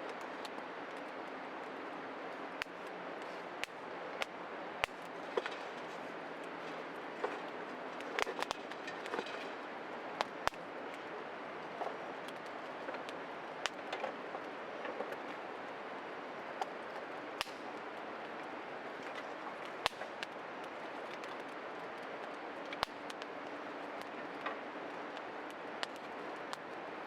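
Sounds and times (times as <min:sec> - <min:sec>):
wood fire crackling and popping: 0:00.1 - 0:27.0.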